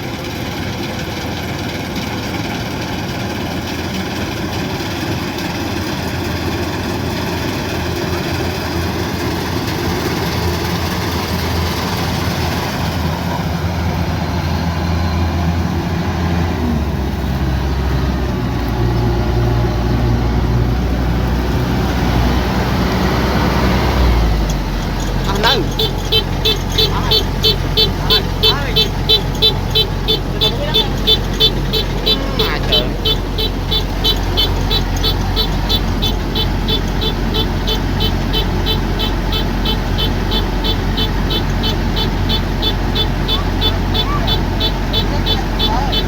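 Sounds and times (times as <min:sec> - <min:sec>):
combine harvester diesel engine: 0:00.0 - 0:46.0.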